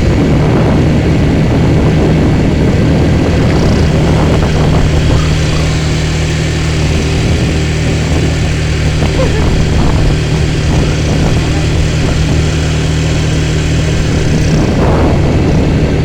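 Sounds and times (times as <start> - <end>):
atv engine running: 0.0 - 16.0
rushing noise: 0.0 - 16.0.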